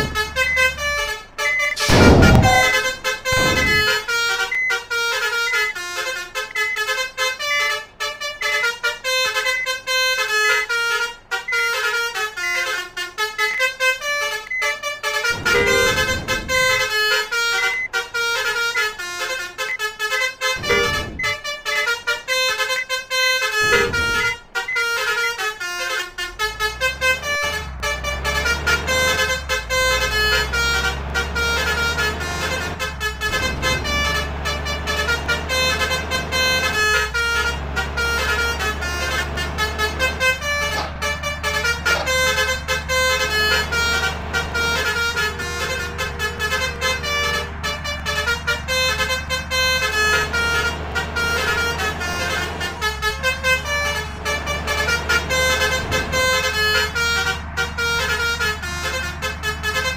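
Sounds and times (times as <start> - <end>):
bus engine drone: 0.0 - 59.9
multi-trumpet air horn melody: 0.0 - 59.9.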